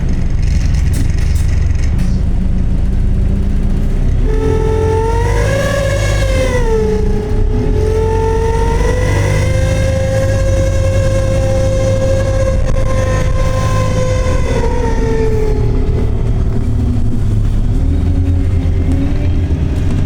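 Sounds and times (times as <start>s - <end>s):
bus engine whine: 0.0s - 20.0s
low drivetrain rumble: 0.0s - 20.0s.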